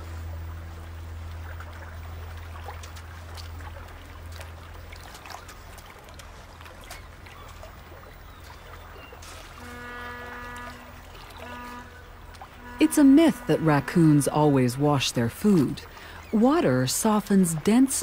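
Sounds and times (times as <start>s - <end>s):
low steady hum: 0.0s - 18.0s
small water splashes: 0.0s - 18.0s.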